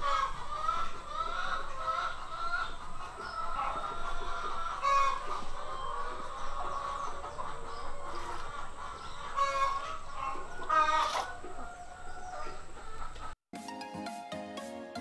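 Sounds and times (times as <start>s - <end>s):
chickens clucking: 0.0s - 13.4s.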